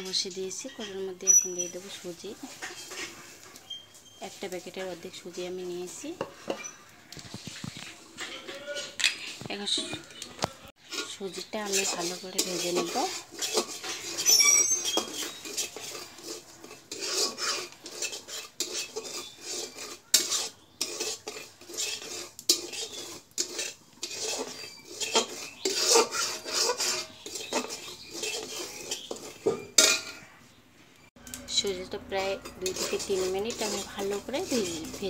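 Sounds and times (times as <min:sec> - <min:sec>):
metal spatula scraping iron pan: 0:00.0 - 0:30.4, 0:31.2 - 0:35.0.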